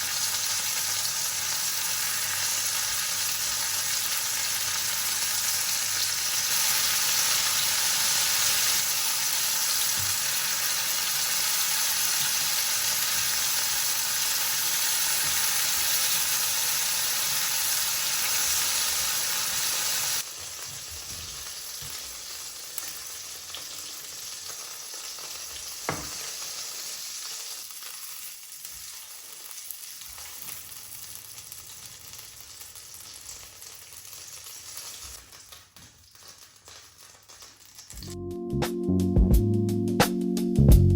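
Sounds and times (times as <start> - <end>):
food sizzling in hot fat: 0.0 - 38.2.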